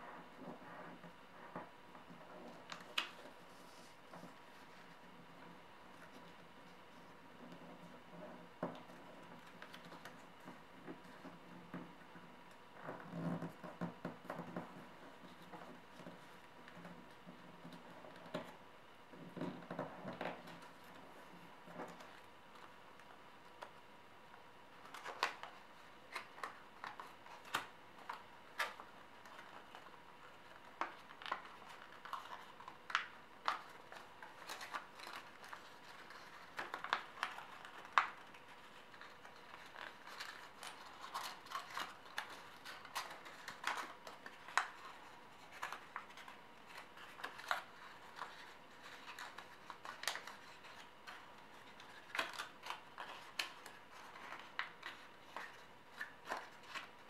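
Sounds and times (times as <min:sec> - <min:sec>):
paper crackling and rustling: 0:00.4 - 0:18.6, 0:24.7 - 0:57.0.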